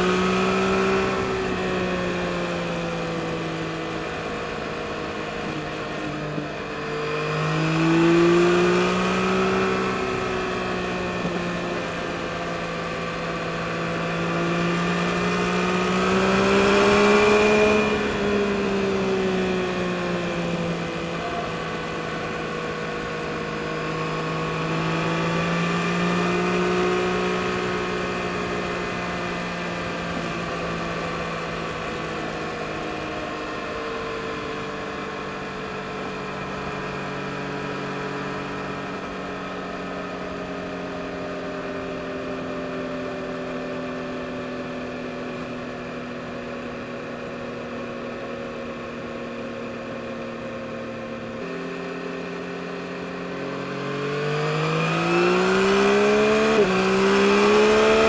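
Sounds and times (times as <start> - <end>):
motorcycle engine revving: 0.0 - 43.7, 50.6 - 58.0.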